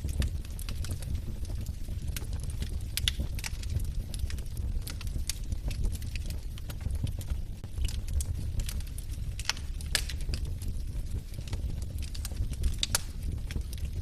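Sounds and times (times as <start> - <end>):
logs crackling in fireplace: 0.0 - 14.0
low steady fire rumble: 0.0 - 14.0.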